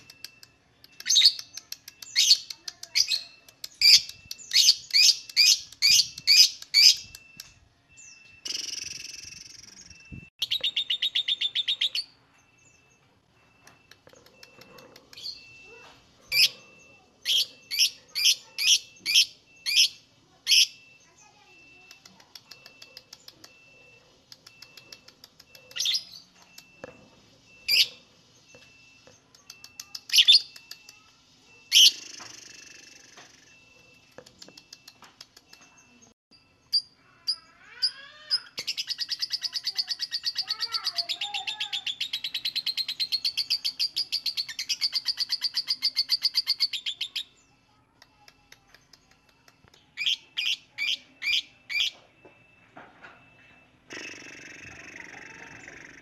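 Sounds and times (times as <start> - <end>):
lovebird chirps: 0.0 - 56.0.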